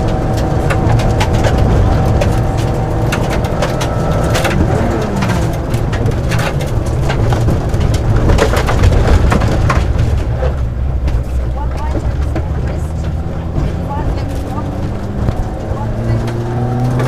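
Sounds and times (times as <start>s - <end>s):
car engine and tyres rumbling: 0.0s - 17.0s
stones ticking on car underside: 0.0s - 17.0s.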